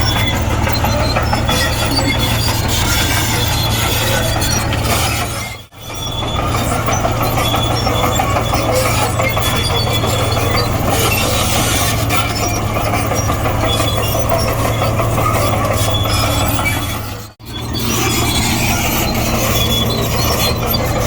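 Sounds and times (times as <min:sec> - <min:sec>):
bulldozer diesel engine: 0:00.0 - 0:21.0
steel tracks clanking and squealing: 0:00.0 - 0:21.0.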